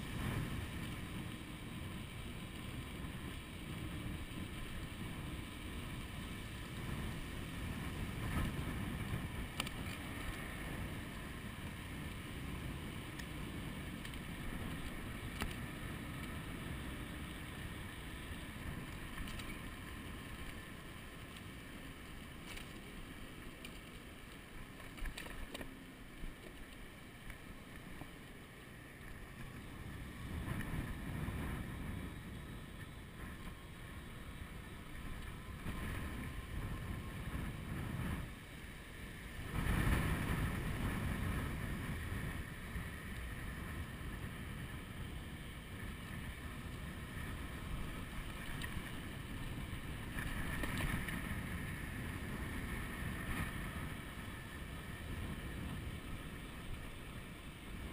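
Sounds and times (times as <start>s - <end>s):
wind buffeting microphone: 0.0s - 20.7s, 29.0s - 57.9s.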